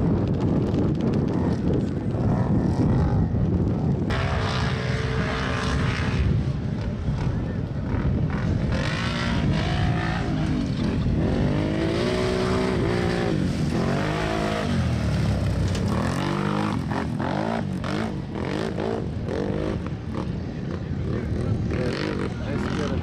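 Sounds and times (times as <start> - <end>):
atv engines revving: 0.0 - 23.0.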